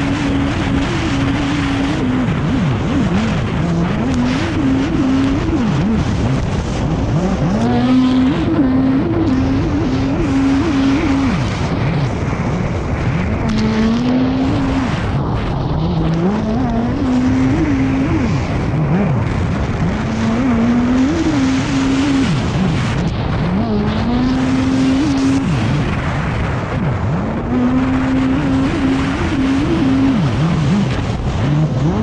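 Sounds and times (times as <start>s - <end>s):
jet ski engine revving: 0.0s - 32.0s
rushing water: 0.0s - 32.0s
wind: 0.0s - 32.0s.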